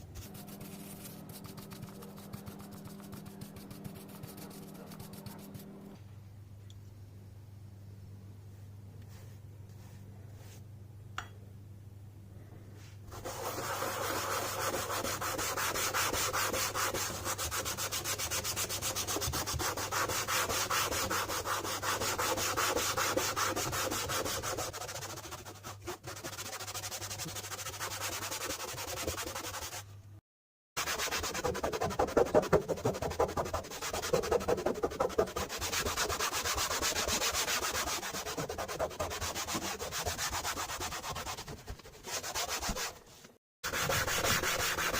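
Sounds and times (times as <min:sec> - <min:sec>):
rubbing strokes by hand: 0:00.0 - 0:05.7, 0:12.8 - 0:29.8, 0:30.8 - 0:44.9.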